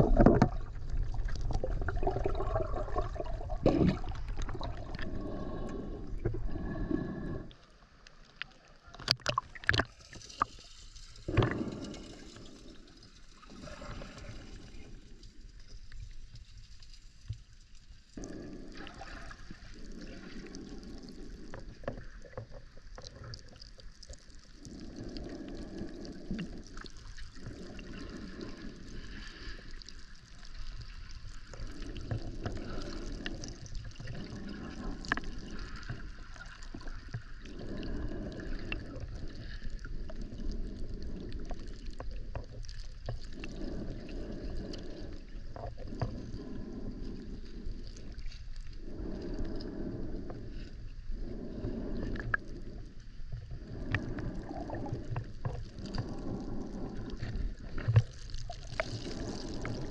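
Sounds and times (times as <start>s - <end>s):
muffled underwater water swishes: 0.0s - 59.9s.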